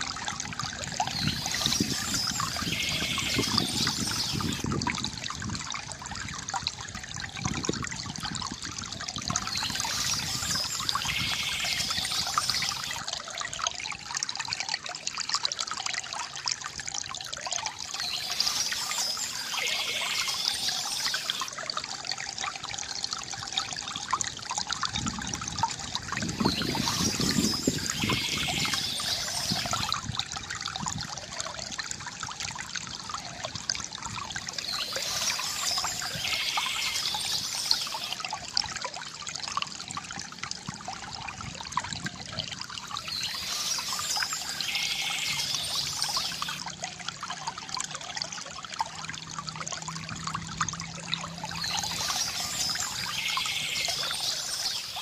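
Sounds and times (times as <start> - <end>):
water trickling from bamboo fountain: 0.0 - 55.0.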